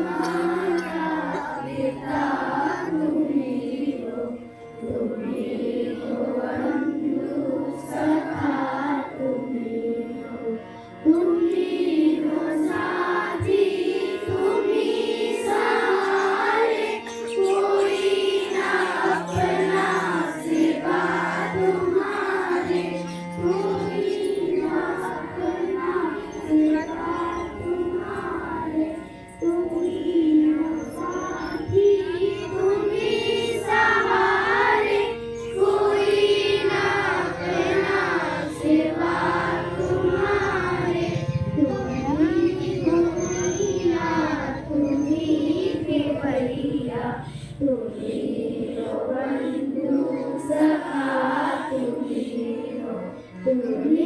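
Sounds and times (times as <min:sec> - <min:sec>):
children singing in unison: 0:00.0 - 0:54.0.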